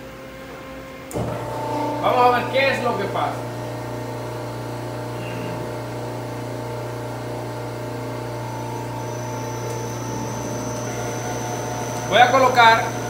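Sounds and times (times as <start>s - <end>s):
faint high whine: 0.0s - 13.0s
test bench machine hum: 0.0s - 13.0s.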